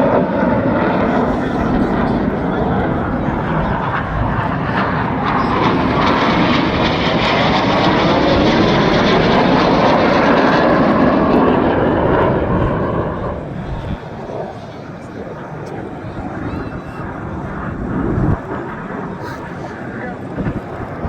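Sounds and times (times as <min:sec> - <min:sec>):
aircraft engine rushing past: 0:00.0 - 0:21.0.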